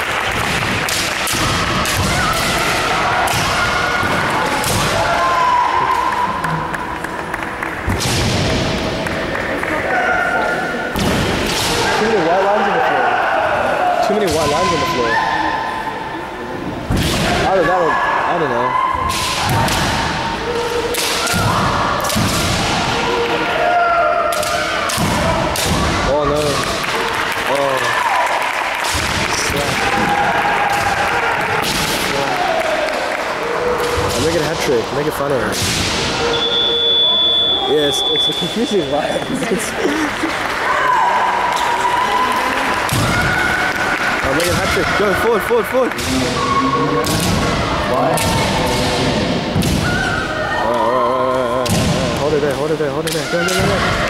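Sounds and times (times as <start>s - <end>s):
echoing hall noise: 0.0s - 54.0s.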